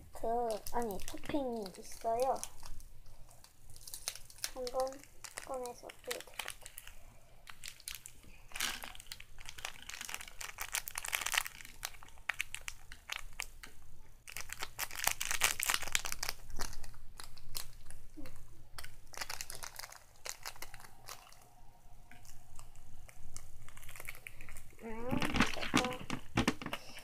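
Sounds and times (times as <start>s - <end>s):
plastic packaging crinkling: 0.2s - 27.0s.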